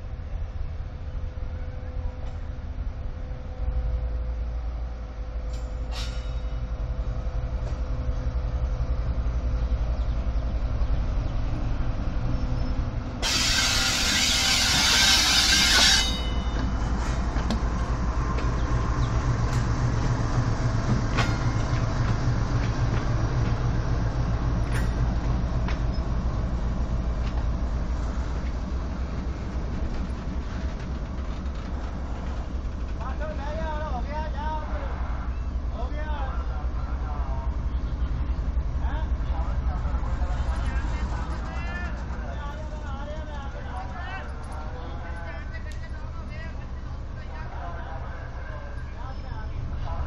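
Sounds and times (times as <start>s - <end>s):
locomotive engine droning: 0.0s - 50.0s.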